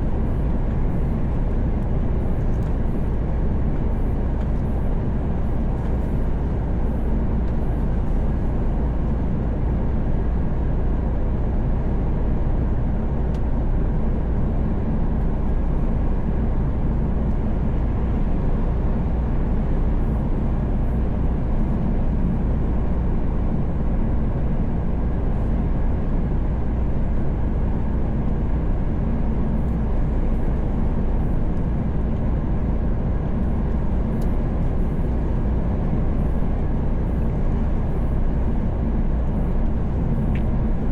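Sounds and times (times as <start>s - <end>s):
truck engine hum: 0.0s - 12.9s, 13.6s - 40.9s.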